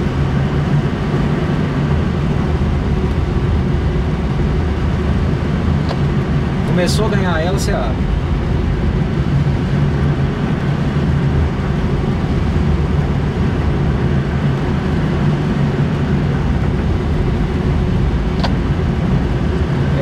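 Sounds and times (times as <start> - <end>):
airflow rushing around canopy: 0.0 - 20.0.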